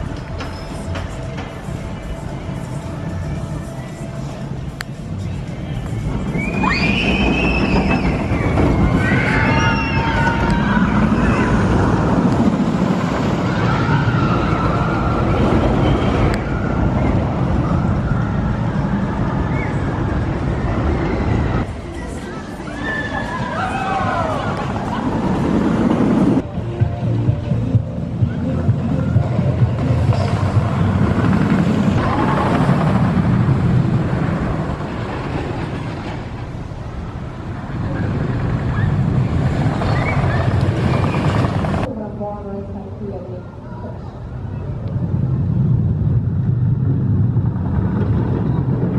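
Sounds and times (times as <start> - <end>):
roller coaster rumbling on wooden track: 5.9 - 26.6, 28.0 - 43.0, 44.1 - 48.9.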